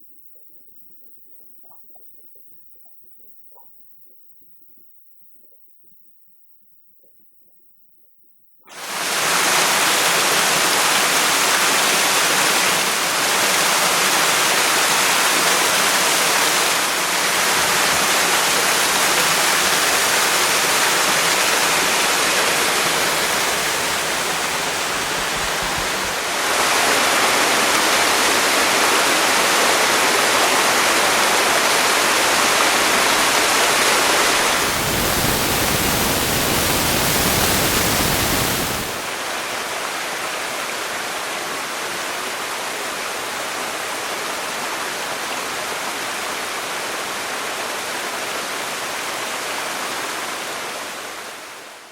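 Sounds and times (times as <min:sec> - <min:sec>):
waterfall rushing: 0:08.7 - 0:51.2.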